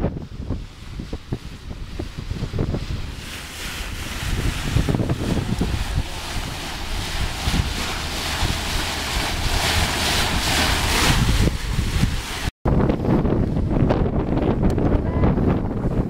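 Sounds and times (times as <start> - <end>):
water rushing under ship bow: 0.0 - 16.0
wind buffeting microphone: 0.0 - 16.0.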